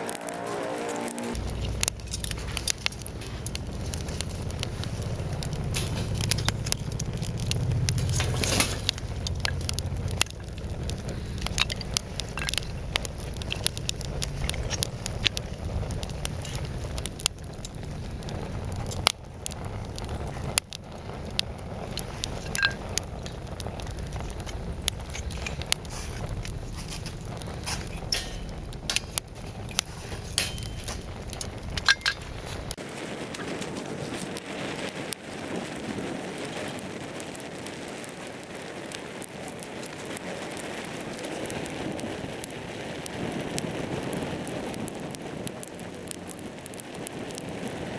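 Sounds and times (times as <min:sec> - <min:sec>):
fire hissing: 0:00.0 - 0:47.9
low stove rumble: 0:00.0 - 0:47.9
wood fire crackling and popping: 0:00.0 - 0:47.9.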